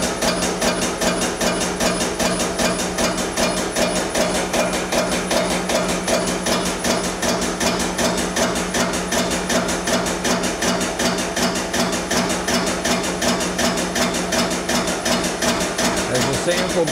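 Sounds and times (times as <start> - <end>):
air-driven pump strokes: 0.0 - 16.9.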